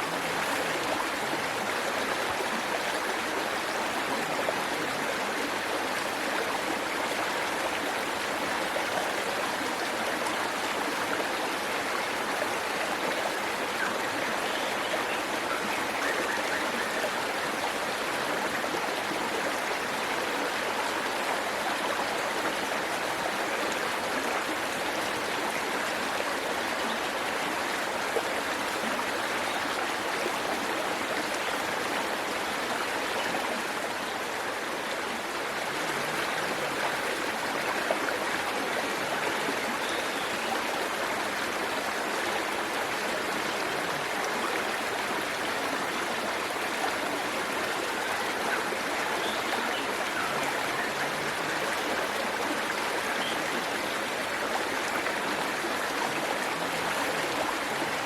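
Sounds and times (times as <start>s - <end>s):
waterfall rushing and splashing: 0.0s - 58.0s.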